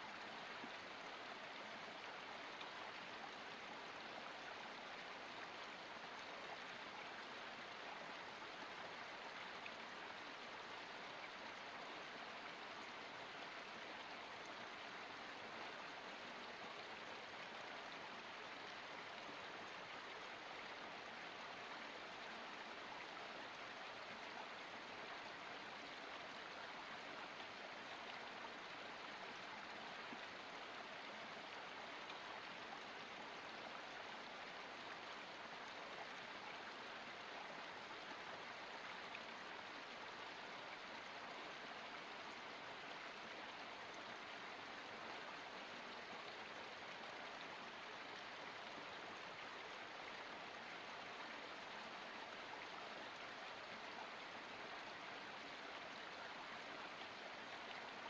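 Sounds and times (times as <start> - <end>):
stream trickling over rocks: 0.0 - 58.0.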